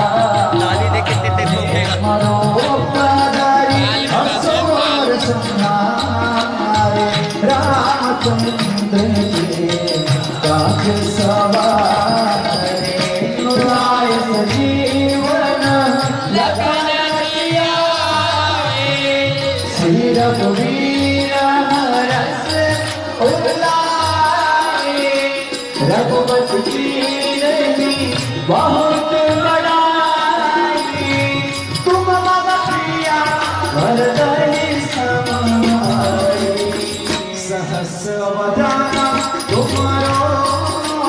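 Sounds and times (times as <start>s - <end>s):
harmonium: 0.0s - 41.0s
percussion beat: 0.0s - 41.0s
young men singing devotional song: 0.0s - 41.0s.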